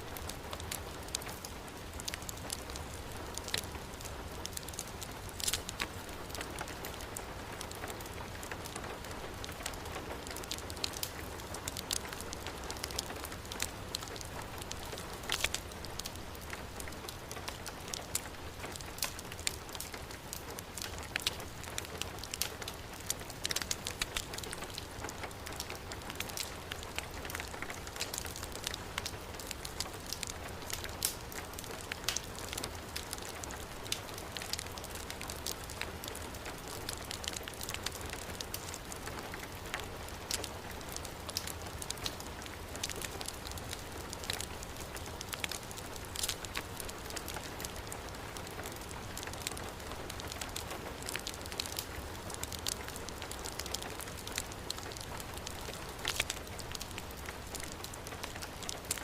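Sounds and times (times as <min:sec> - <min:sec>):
heavy rain on a surface: 0:00.0 - 0:59.0
wood fire crackling: 0:00.0 - 0:59.0.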